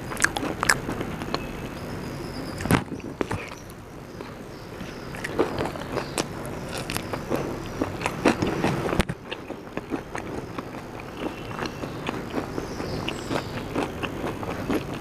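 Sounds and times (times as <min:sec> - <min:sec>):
person chewing crunchy food: 0:00.0 - 0:01.8, 0:03.0 - 0:15.0.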